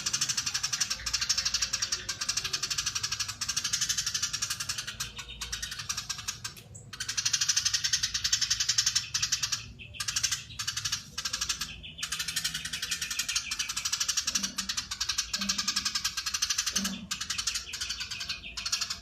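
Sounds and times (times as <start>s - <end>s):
sparrow chattering: 0.0s - 19.0s.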